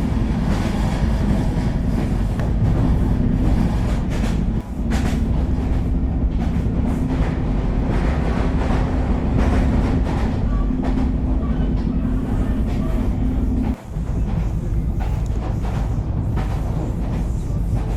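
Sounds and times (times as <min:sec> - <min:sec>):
constant hum: 0:00.0 - 0:17.9
train rumbling along track: 0:00.0 - 0:17.9.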